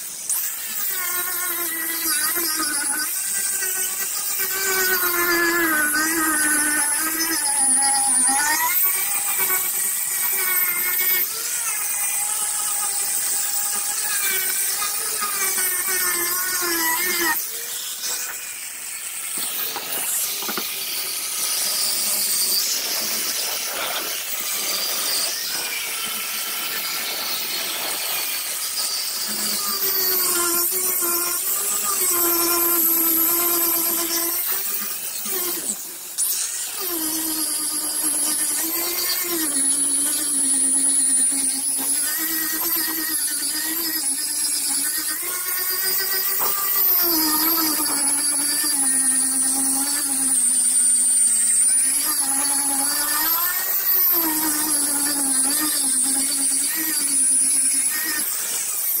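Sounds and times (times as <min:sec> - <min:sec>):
power grinder whine: 0:00.0 - 0:59.0
rough grinding noise: 0:00.0 - 0:59.0.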